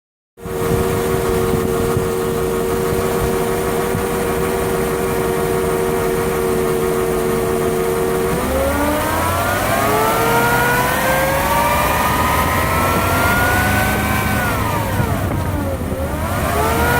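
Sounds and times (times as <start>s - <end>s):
alternator whine: 0.4s - 16.9s
car engine idling and revving: 0.4s - 16.9s.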